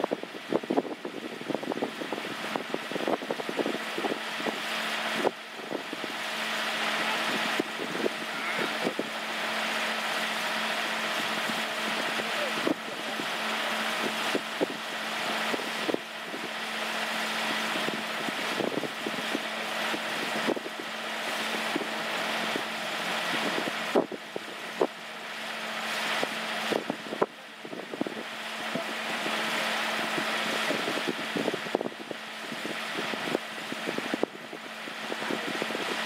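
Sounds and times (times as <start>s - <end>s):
distant crane engine humming: 3.6s - 35.2s.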